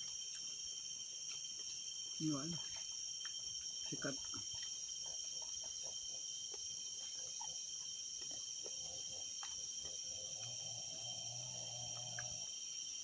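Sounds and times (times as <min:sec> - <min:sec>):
insects chorus: 0:00.0 - 0:13.0
faint ticks: 0:02.5 - 0:13.0.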